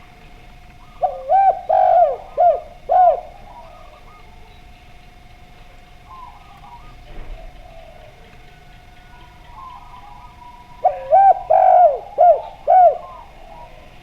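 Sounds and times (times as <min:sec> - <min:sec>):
doves cooing: 0:00.0 - 0:14.0
faint steady hum: 0:00.0 - 0:14.0.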